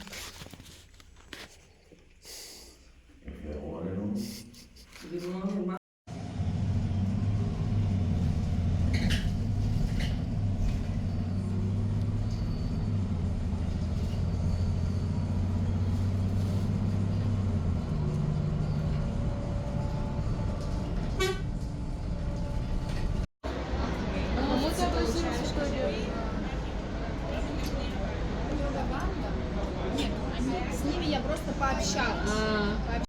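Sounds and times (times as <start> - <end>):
vehicle engine rumble: 6.1 - 33.0.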